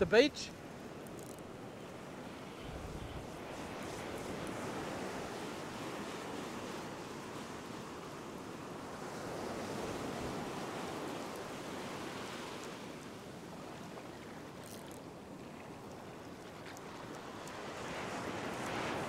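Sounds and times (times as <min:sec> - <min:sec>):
ocean surf breaking on beach: 0:01.6 - 0:15.9, 0:16.8 - 0:19.0.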